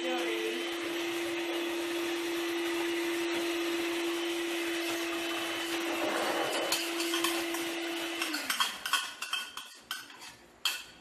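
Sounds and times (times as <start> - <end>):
electric hand mixer whirring: 0.0 - 9.0.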